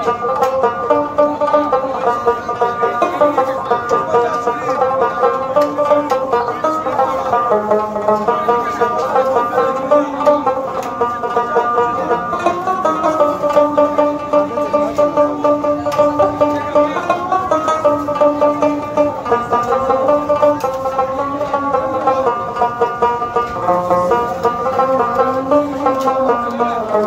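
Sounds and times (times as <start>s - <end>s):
plucked string instrument melody: 0.0s - 27.0s.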